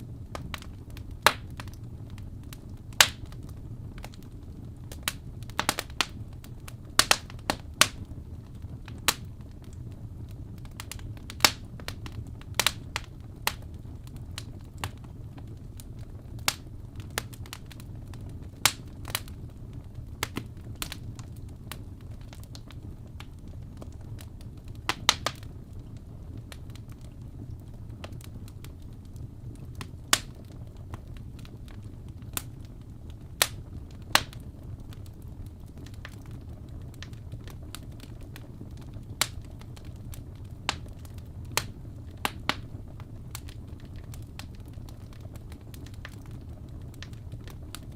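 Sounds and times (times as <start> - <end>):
fireplace crackling: 0.0 - 47.9
low rumble of fire: 0.0 - 47.9.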